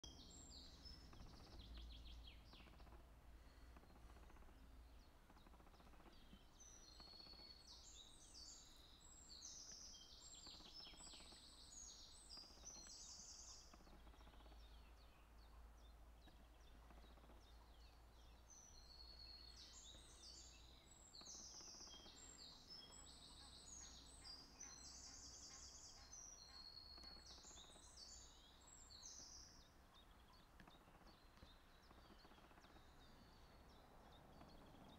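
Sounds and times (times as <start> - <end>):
high trilling birdsong: 5.8 - 34.9.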